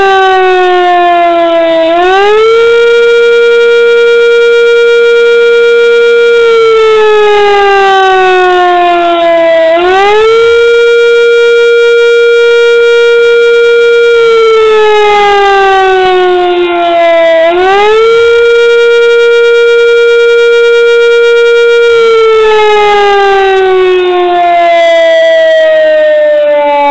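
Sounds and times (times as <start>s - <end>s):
civil defense siren wailing: 0.0s - 26.9s.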